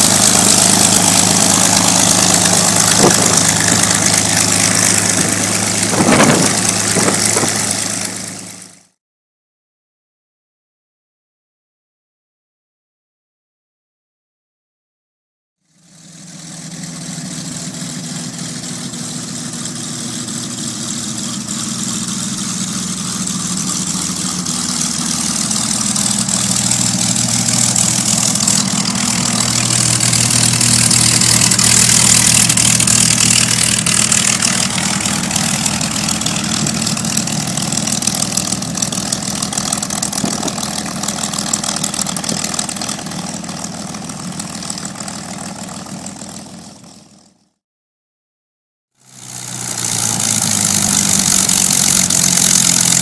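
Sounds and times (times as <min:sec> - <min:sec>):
propeller plane engine taxiing: 0:00.0 - 0:08.9, 0:15.7 - 0:47.4, 0:49.0 - 0:53.0.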